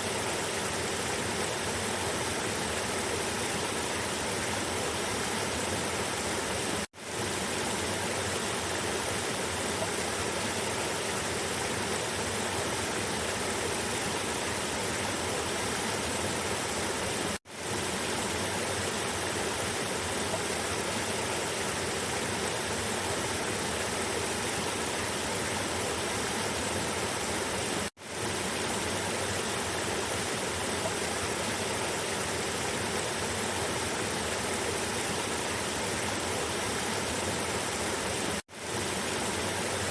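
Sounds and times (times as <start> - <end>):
river water rushing down cascade: 0.0 - 39.9.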